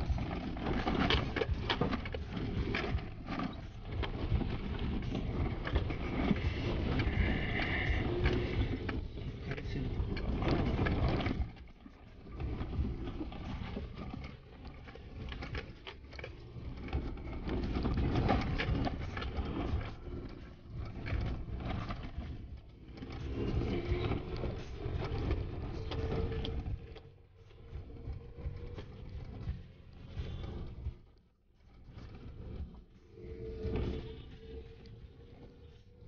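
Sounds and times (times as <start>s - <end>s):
knocks and rattles: 0.0s - 36.0s.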